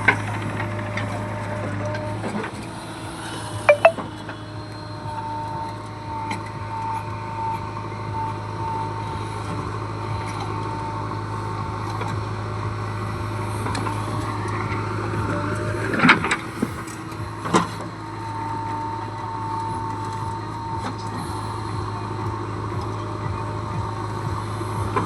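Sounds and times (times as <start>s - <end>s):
diesel engine running: 0.0s - 3.6s, 4.3s - 25.0s.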